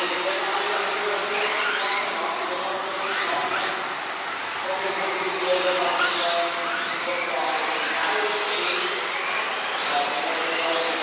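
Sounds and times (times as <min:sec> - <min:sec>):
rc car motors whining: 0:00.0 - 0:11.0.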